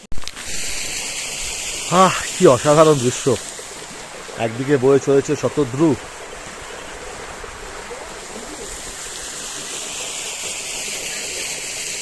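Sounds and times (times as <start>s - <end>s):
waterfall: 0.0s - 12.0s
river water rushing: 0.2s - 12.0s.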